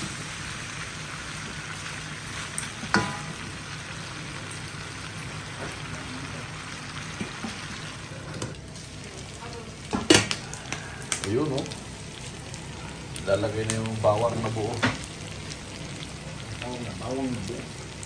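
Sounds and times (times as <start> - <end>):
meat sizzling in fat: 0.0 - 18.0.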